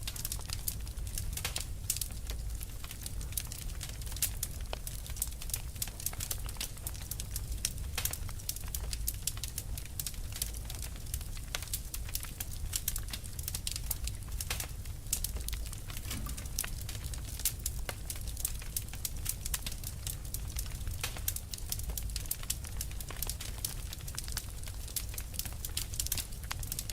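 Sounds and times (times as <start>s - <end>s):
fire crackling and popping: 0.0s - 26.9s
low rumble of flame: 0.0s - 26.9s.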